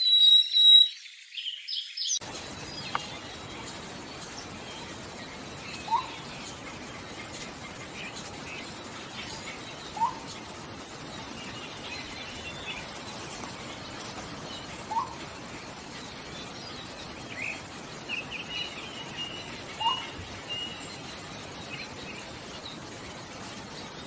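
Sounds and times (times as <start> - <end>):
other birds chirping and trilling: 0.0 - 24.0.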